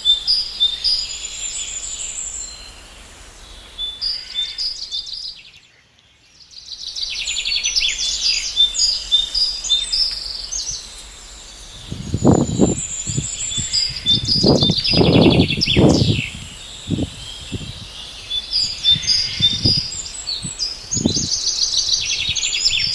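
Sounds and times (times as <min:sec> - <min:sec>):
small birds chirping and trilling: 0:00.0 - 0:22.9.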